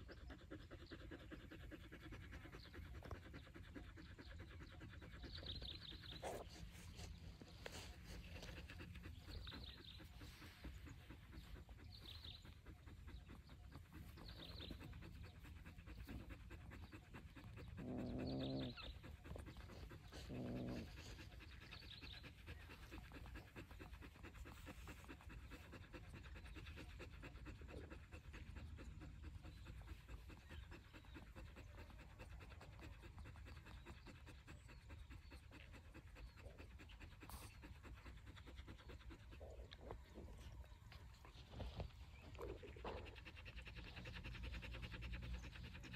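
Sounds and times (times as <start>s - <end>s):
dog panting: 0.0s - 45.9s.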